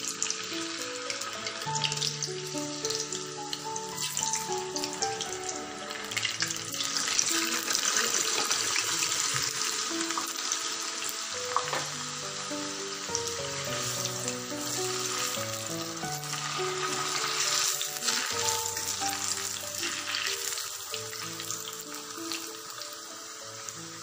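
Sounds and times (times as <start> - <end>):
background music with melody: 0.0 - 24.0
potatoes sizzling in hot oil: 0.0 - 24.0.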